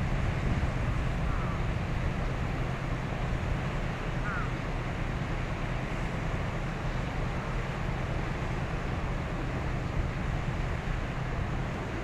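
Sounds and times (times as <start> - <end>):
ship diesel engine droning: 0.0 - 12.0
wind and water hiss: 0.0 - 12.0.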